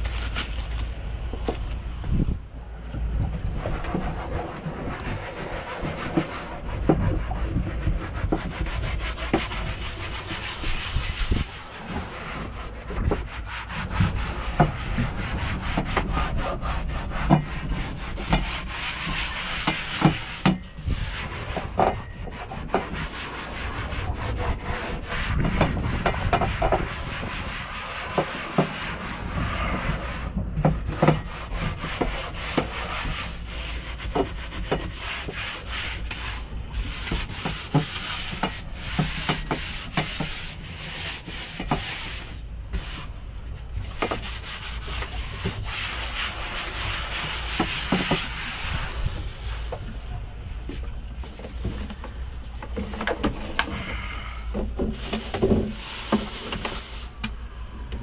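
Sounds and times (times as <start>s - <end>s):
hand scrubbing a hard surface: 3.5s - 57.6s.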